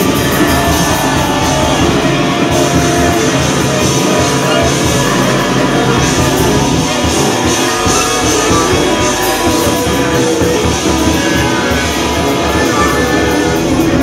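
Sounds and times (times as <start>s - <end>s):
saxophones free improvising: 0.0s - 14.0s.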